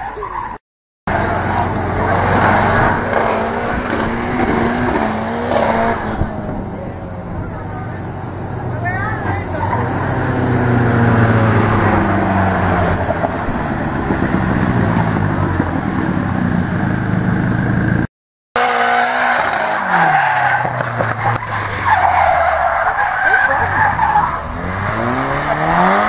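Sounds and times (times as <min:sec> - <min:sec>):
tyres skidding on tarmac: 0:00.0 - 0:26.0
car engine revving hard: 0:01.1 - 0:26.0.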